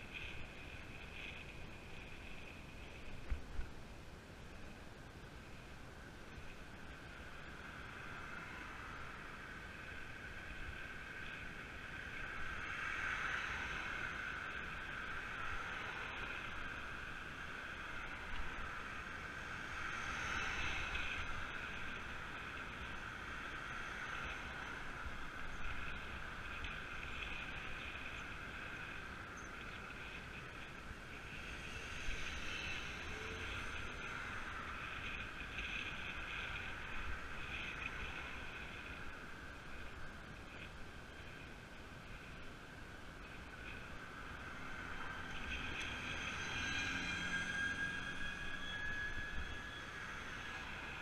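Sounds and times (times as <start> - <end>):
bicycle tyre noise on road: 0.0 - 51.0
rushing wind: 0.0 - 51.0.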